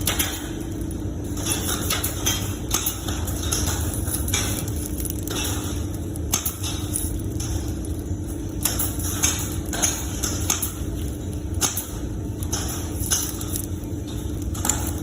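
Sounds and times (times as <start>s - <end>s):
sharp clicks and knocks: 0.0s - 15.0s
steady low hum: 0.0s - 15.0s.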